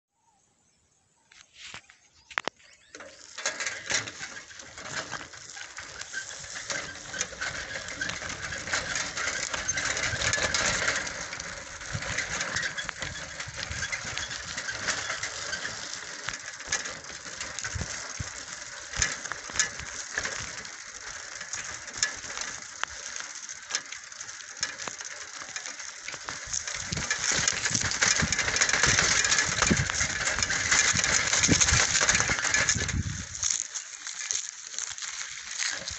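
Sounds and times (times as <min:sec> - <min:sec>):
bicycle tyres crunching on dirt: 0:01.3 - 0:35.9
dry grass brushing: 0:01.3 - 0:35.9
bicycle frame rattling: 0:02.8 - 0:35.9.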